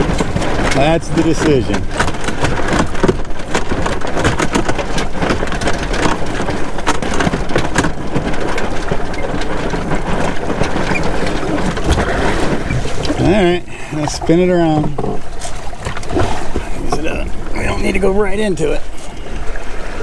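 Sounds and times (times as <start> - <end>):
rush of wind and water: 0.0 - 20.0
sharp splashes or knocks: 0.0 - 20.0.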